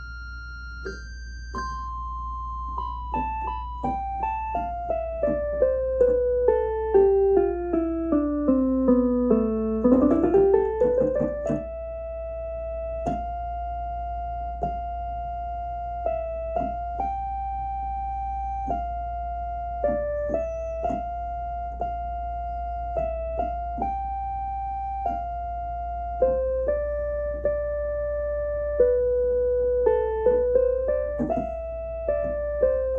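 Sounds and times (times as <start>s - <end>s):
electronic keyboard notes: 0.0s - 32.9s.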